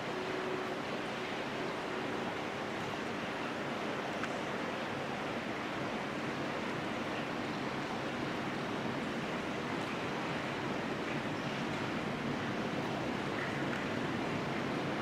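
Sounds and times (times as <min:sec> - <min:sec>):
train roaring through tunnel: 0:00.0 - 0:15.0.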